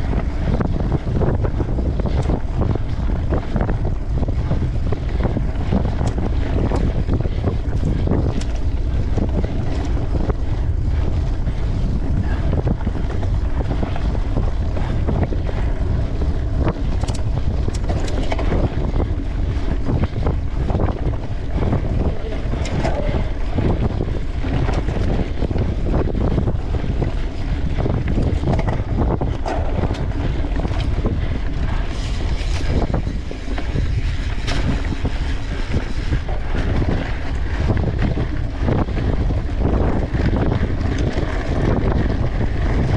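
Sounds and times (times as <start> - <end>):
bike rattles and knocks: 0.0 - 42.9
wind buffeting microphone: 0.0 - 42.9.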